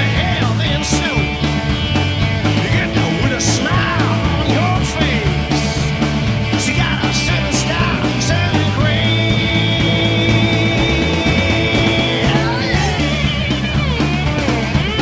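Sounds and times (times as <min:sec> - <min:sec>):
rock and roll band music: 0:00.0 - 0:15.0.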